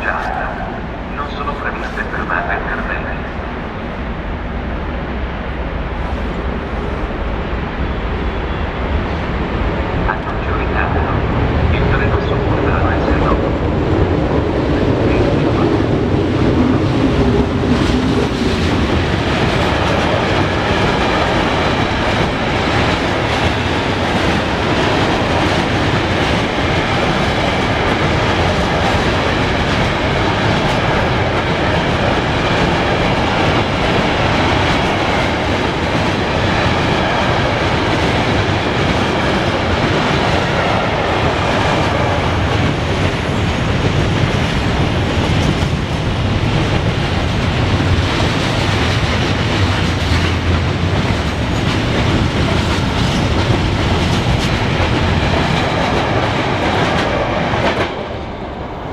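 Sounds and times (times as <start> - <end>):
freight train wheels rolling on rails: 11.1 - 58.9.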